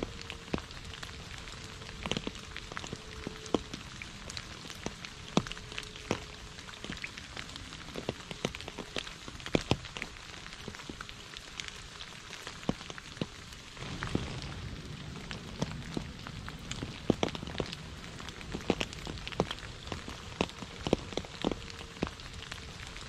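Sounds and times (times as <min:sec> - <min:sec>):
rain on puddle and leaves: 0:00.0 - 0:23.0.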